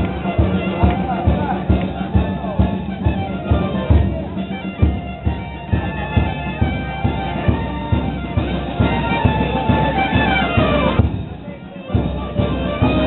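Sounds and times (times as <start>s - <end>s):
wind band playing dance tune: 0.0s - 13.0s.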